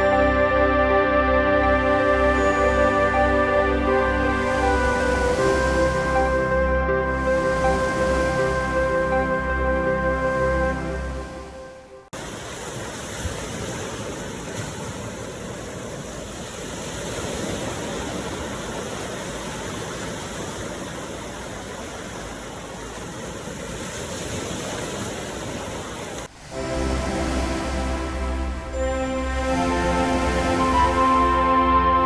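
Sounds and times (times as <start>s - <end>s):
ocean surf rushing: 0.0s - 32.0s.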